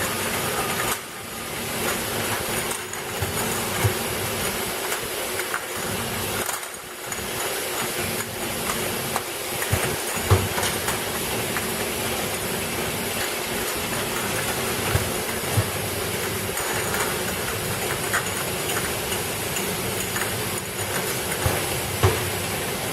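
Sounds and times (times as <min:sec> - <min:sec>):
machine hissing and humming: 0:00.0 - 0:22.9.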